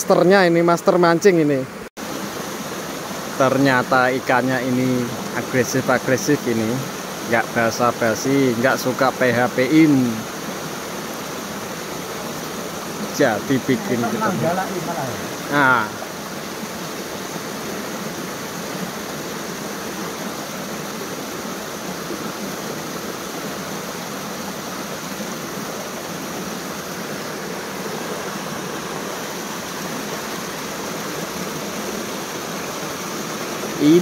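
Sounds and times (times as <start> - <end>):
river water flowing: 0.0 - 34.0.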